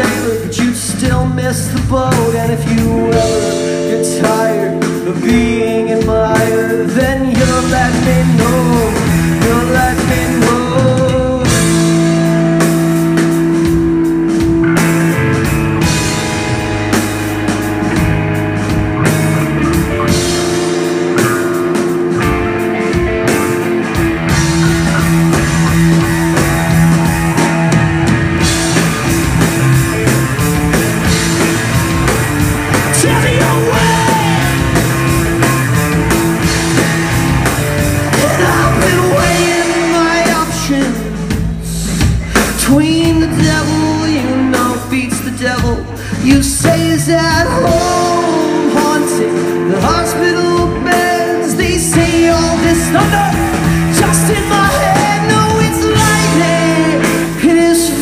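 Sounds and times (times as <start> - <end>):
drum kit: 0.0 - 58.0
electric bass: 0.0 - 58.0
electric guitar: 0.0 - 58.0.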